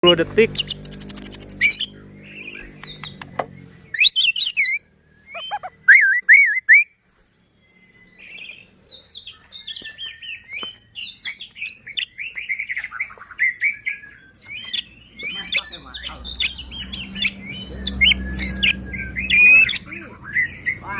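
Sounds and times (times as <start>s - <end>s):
bird singing whistled notes: 0.0s - 20.9s.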